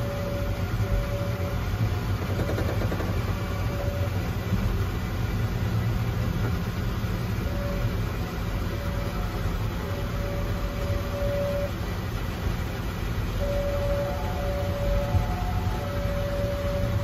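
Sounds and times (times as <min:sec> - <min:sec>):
miniature train rumbling on track: 0:00.0 - 0:17.0.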